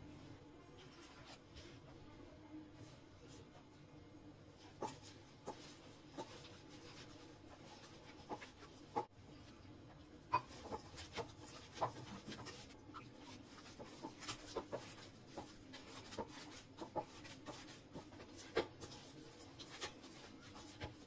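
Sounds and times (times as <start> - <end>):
dough kneaded in steel bowl: 0.0 - 21.0.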